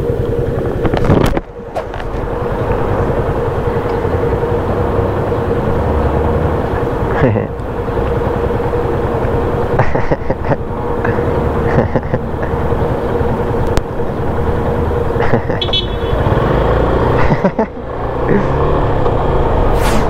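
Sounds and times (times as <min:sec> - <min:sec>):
motorcycle engine idling and revving: 0:00.0 - 0:20.0
street traffic: 0:00.0 - 0:20.0.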